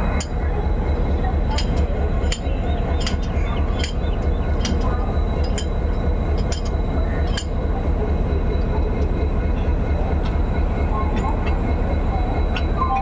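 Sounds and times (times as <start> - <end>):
locomotive rumble: 0.0 - 13.0.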